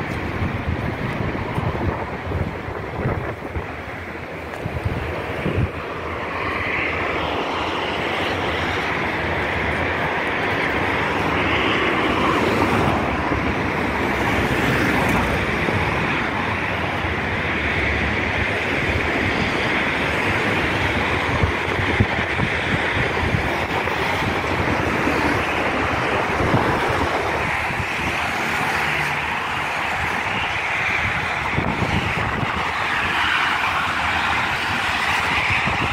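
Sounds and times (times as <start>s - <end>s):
road traffic hiss: 0.0s - 35.9s
wind rumbling on microphone: 0.0s - 35.9s.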